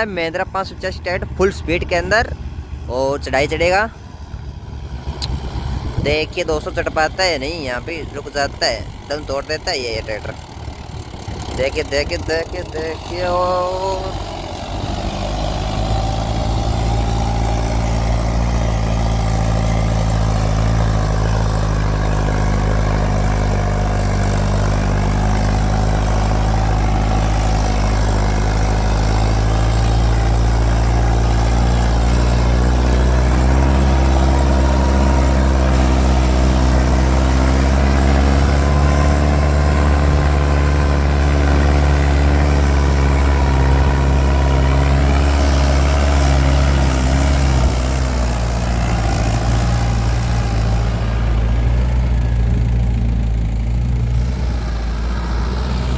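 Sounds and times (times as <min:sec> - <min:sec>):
tractor diesel engine under load: 0:00.0 - 0:55.9.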